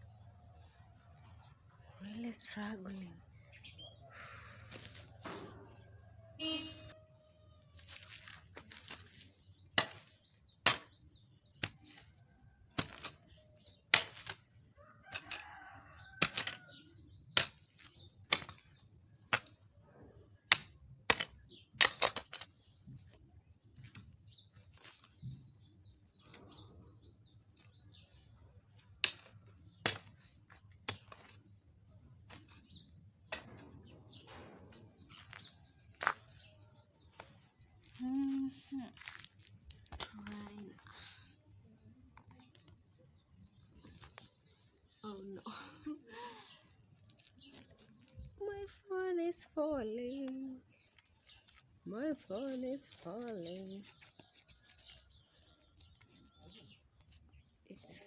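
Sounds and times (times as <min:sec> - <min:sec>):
weeds being chopped and pulled: 0:04.6 - 0:05.6, 0:07.8 - 0:19.8, 0:20.4 - 0:34.2, 0:34.9 - 0:41.2, 0:42.2 - 0:45.2, 0:46.1 - 0:48.6, 0:50.0 - 0:58.0.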